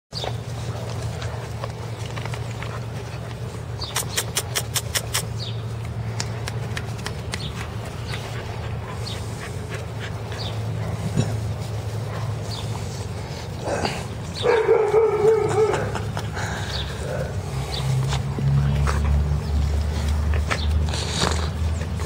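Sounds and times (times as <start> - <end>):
puppies scuffling on grass: 0.1 - 22.0.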